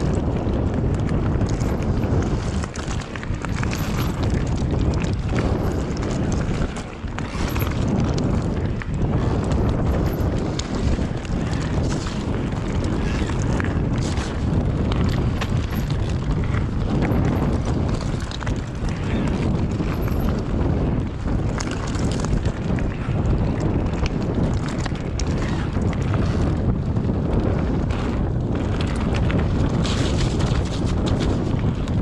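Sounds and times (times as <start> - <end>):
bike clicks and rattles: 0.0 - 32.0
tyres rumbling over trail: 0.0 - 32.0
wind buffeting microphone: 0.0 - 32.0.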